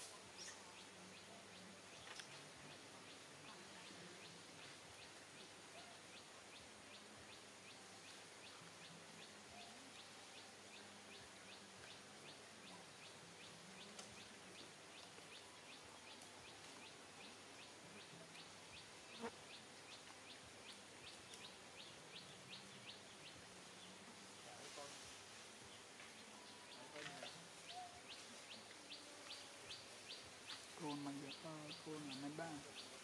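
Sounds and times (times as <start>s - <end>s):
soft outdoor hiss: 0.0s - 33.0s.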